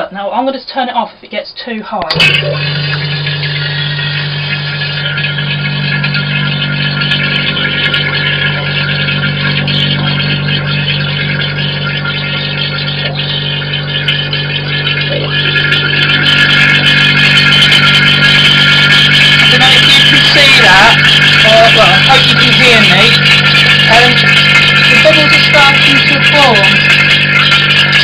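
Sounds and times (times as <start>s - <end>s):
vacuum pump humming: 2.0s - 28.0s.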